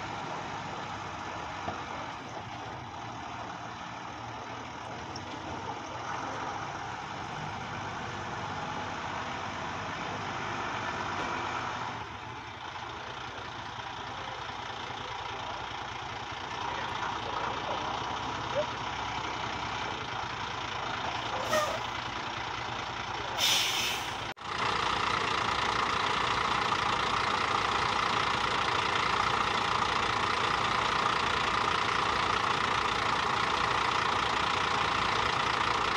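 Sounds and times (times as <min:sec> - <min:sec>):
diesel truck engine driving: 0:00.0 - 0:35.9.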